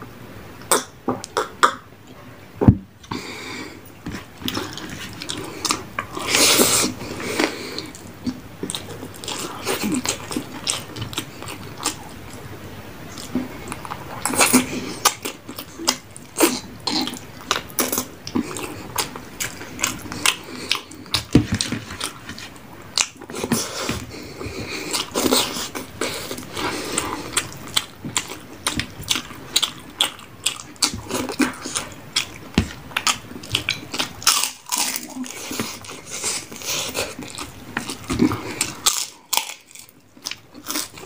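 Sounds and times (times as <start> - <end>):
person chewing food: 3.0 - 41.0.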